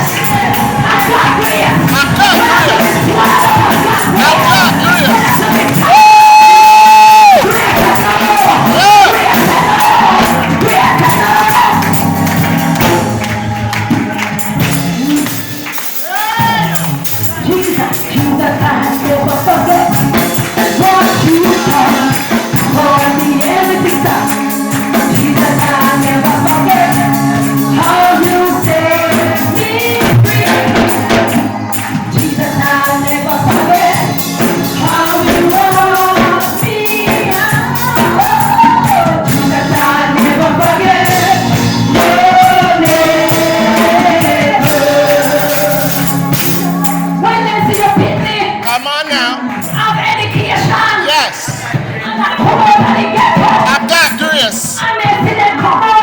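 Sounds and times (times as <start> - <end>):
band playing: 0.0 - 55.0
percussion beat: 0.0 - 56.0
voices singing gospel: 0.0 - 56.0.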